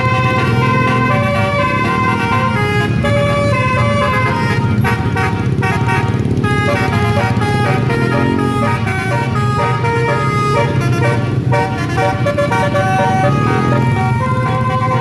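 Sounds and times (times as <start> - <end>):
bus multi-tone horn tune: 0.0 - 15.0.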